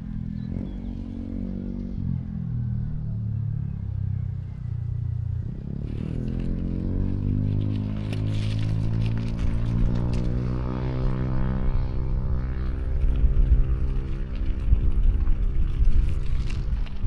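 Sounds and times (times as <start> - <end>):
low rumbling traffic: 0.0 - 17.0
vehicle engine droning: 0.0 - 17.0.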